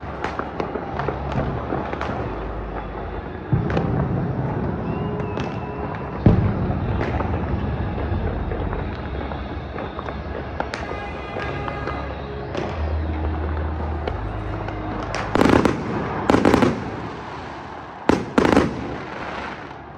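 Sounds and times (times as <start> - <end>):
distant fireworks crackling: 0.0 - 19.9
fireworks bangs: 0.0 - 19.9.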